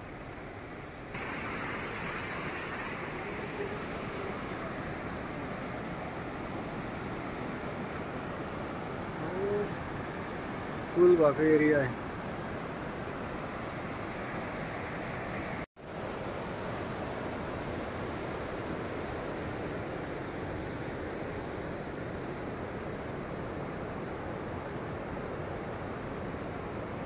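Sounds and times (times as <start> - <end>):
river water rushing: 0.1 - 27.0.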